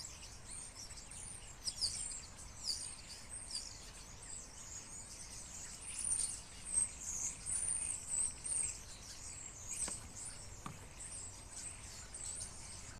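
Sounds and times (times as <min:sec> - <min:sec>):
flock of small birds chirping: 0:00.0 - 0:12.9.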